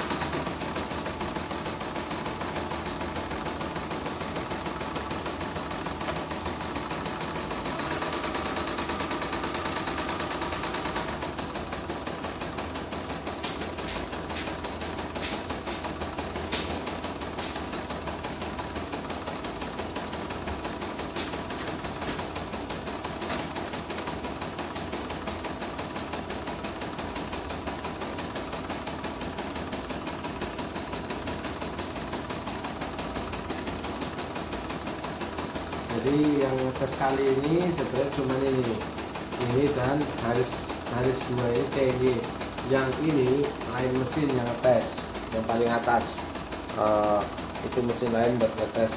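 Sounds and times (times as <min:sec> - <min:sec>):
embroidery machine needle clatter: 0:00.0 - 0:48.9.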